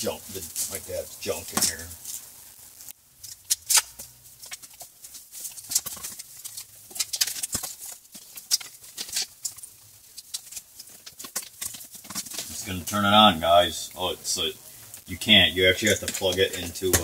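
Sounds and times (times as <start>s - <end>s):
cables and plugs rustling: 0.0s - 17.0s.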